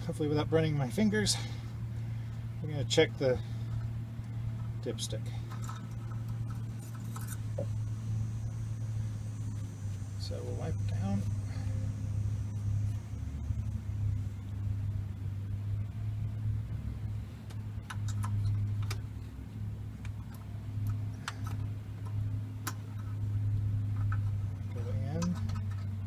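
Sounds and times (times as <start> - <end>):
generator humming: 0.0 - 26.0.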